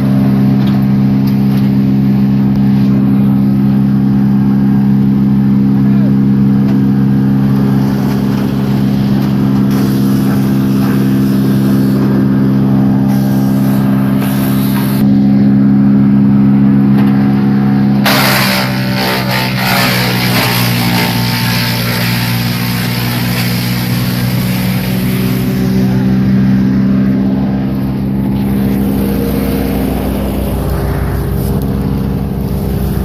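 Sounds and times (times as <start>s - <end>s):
wood rushing through chipper: 0.0s - 15.1s, 18.0s - 33.0s
wood chipper engine running: 0.0s - 33.0s.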